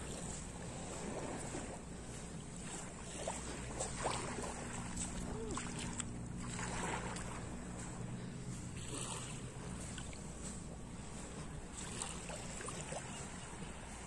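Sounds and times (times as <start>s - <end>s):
low engine hum: 0.0s - 14.0s
sea noise: 0.0s - 14.0s
wind: 0.0s - 14.0s.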